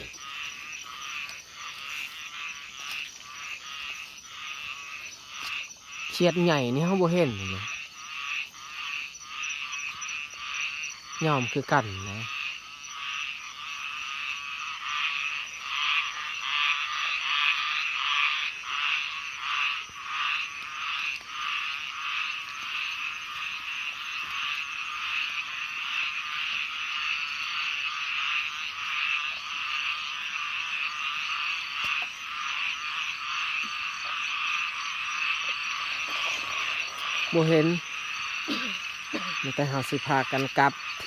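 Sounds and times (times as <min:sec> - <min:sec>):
chorus of frogs croaking: 0:00.0 - 0:41.0.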